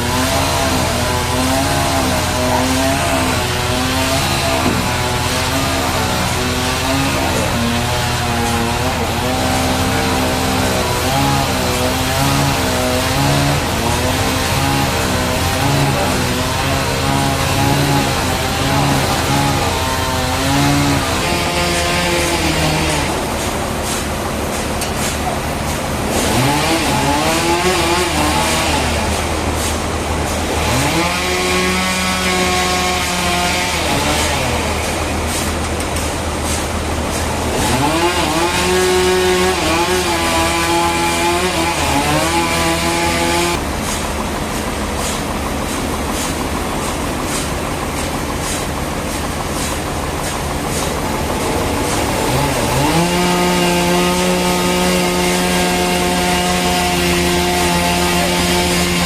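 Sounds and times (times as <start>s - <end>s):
engine-driven saw revving: 0.0s - 59.0s.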